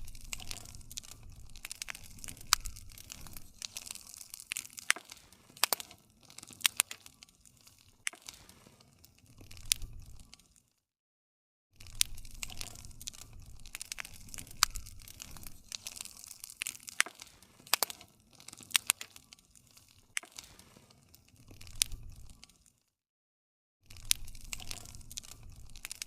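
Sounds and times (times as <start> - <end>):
campfire crackling: 0.0 - 10.6, 11.8 - 22.7, 23.9 - 26.0.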